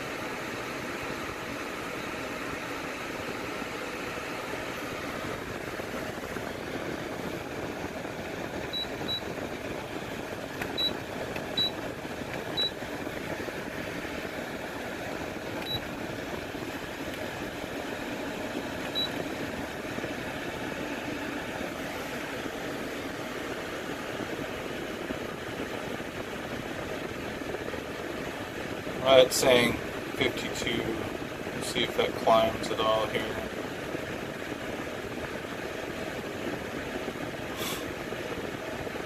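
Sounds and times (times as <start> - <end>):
dehumidifier fan hiss: 0.0 - 39.0.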